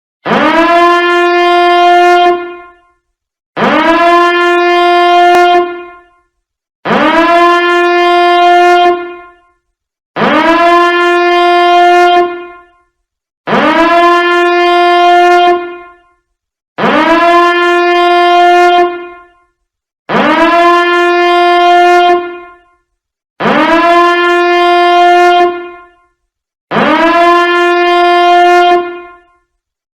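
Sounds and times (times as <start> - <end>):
alarm horn blasts: 0.2 - 29.6.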